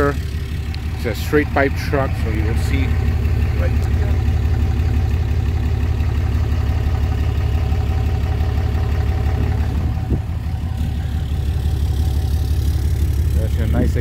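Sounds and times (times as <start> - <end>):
pickup truck engine idling: 0.0 - 14.0.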